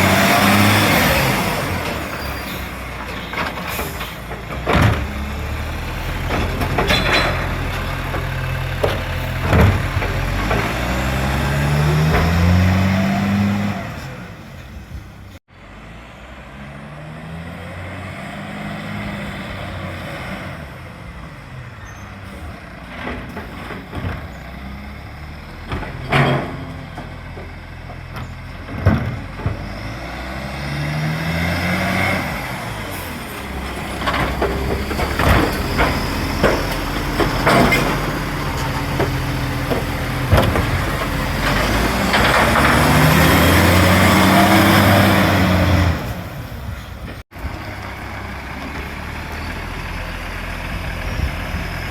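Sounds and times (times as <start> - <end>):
diesel truck engine revving: 0.0 - 51.9.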